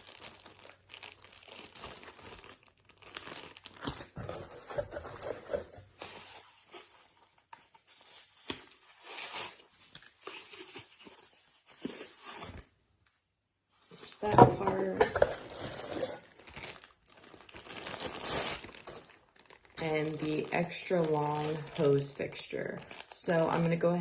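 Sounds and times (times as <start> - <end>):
packaging crinkling and tearing: 0.0 - 13.2, 13.9 - 24.0.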